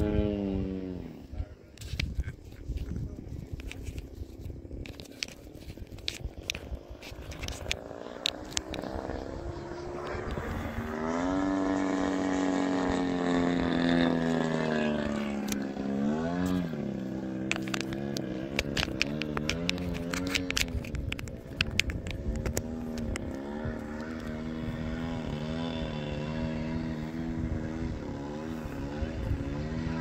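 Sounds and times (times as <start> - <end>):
model airplane engine: 0.0 - 30.0.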